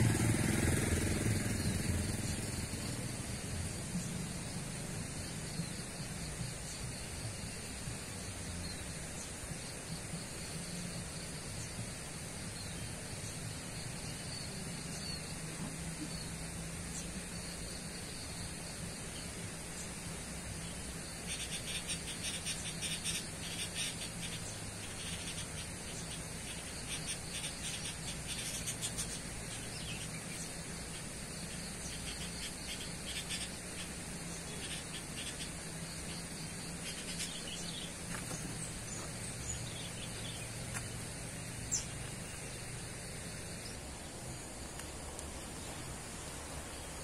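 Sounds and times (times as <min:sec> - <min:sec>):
insects chirring: 0:00.0 - 0:47.0
rapid clicky insect chirping: 0:00.0 - 0:47.0.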